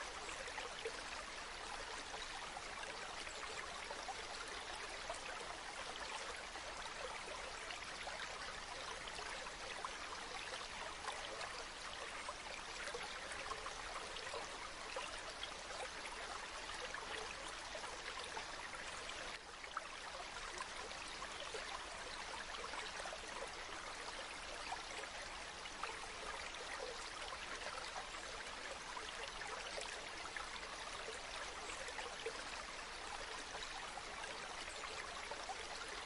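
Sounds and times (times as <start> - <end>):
shallow stream babbling: 0.0 - 36.0.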